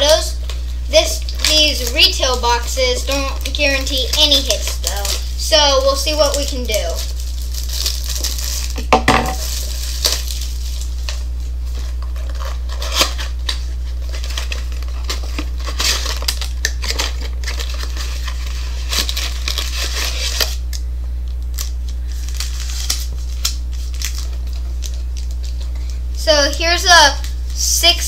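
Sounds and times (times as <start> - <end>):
steady low hum: 0.0 - 28.0
cardboard tearing and crinkling: 1.0 - 20.8, 21.4 - 25.7.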